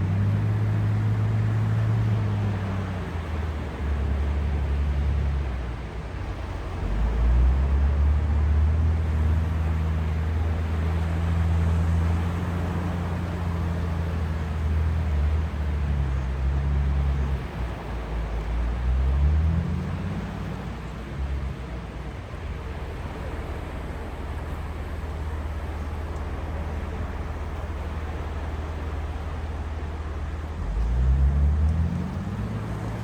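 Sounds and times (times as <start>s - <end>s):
low rumble of surf: 0.0s - 33.0s
sea waves washing on shore: 0.0s - 33.0s.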